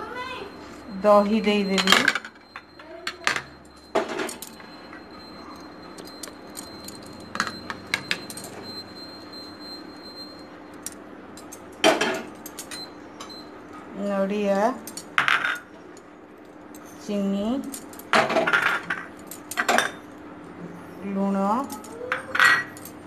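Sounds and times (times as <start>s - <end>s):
utensils clinking against a bowl: 0.7s - 23.0s.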